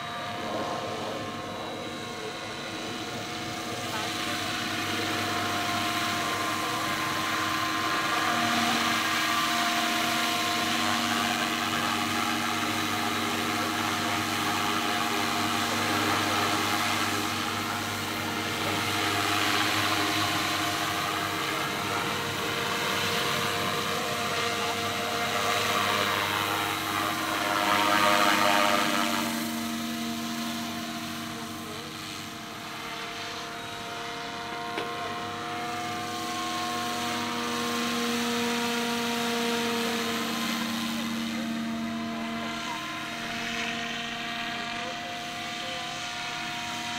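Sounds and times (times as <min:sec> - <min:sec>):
model helicopter whine: 0:00.0 - 0:46.9
rotor blades rushing: 0:00.0 - 0:46.9.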